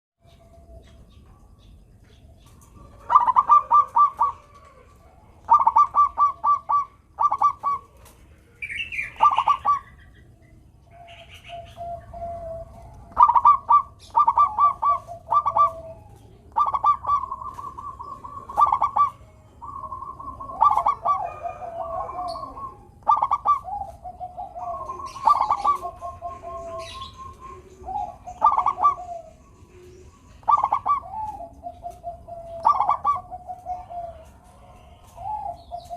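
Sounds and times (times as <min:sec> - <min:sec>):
dove cooing: 0:00.2 - 0:35.9.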